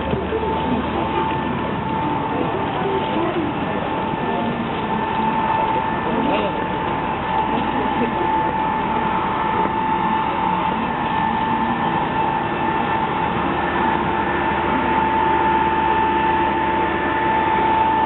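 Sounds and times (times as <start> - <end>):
high-pitched whine: 0.0 - 18.0
mechanical hum: 0.0 - 18.0.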